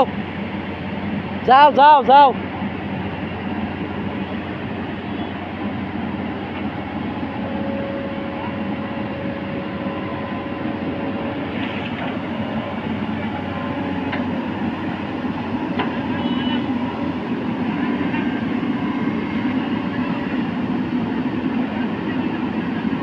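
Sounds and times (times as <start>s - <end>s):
excavator diesel engine running: 0.0s - 23.0s
thin steady whine: 0.0s - 23.0s.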